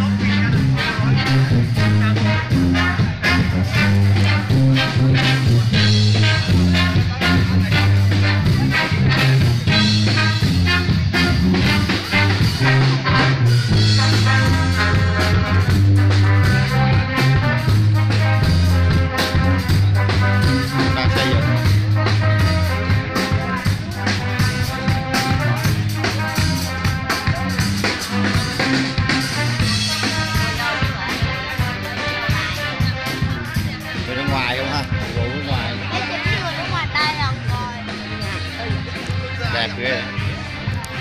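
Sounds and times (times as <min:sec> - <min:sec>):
sousaphone bass line: 0:00.0 - 0:40.2
brass band playing: 0:00.0 - 0:41.0.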